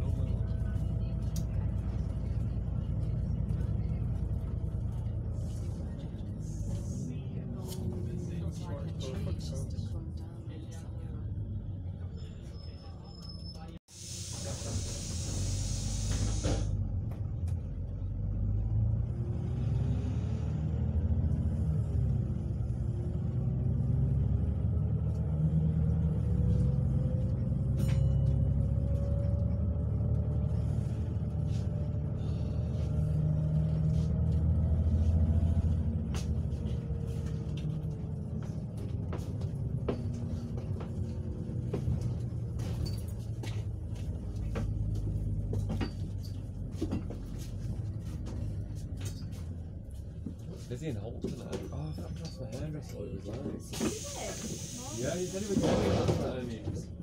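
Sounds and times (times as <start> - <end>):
bus body rattles and clicks: 0.0 - 11.4, 16.1 - 19.4, 20.5 - 57.0
bus engine low rumble: 0.0 - 57.0.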